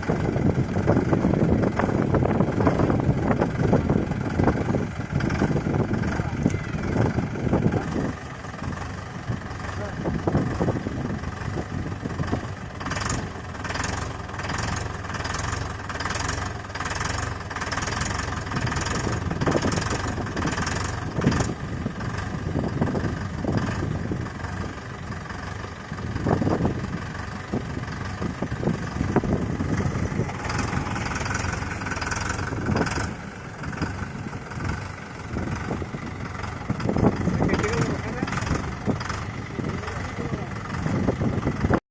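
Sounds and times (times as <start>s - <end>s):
tractor diesel engine running: 0.0s - 41.8s.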